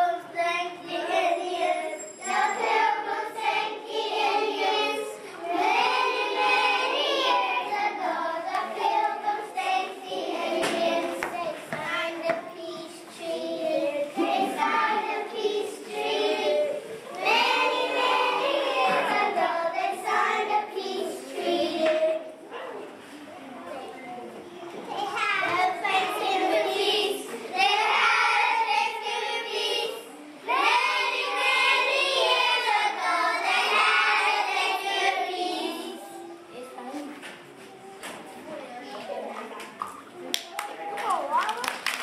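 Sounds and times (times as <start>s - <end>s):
children singing in chorus: 0.0s - 22.4s, 25.2s - 36.4s.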